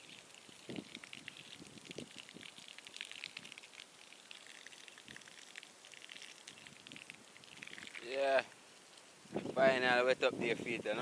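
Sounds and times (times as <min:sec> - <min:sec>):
water spattering on concrete: 0:00.0 - 0:11.0.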